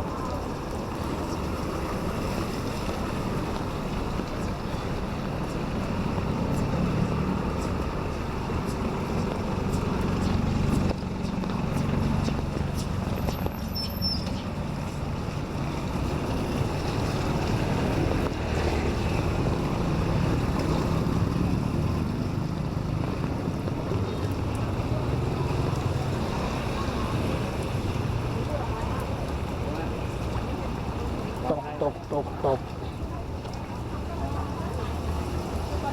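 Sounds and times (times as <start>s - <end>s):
road traffic rumble: 0.0s - 35.9s
steady rain on street: 0.0s - 35.9s.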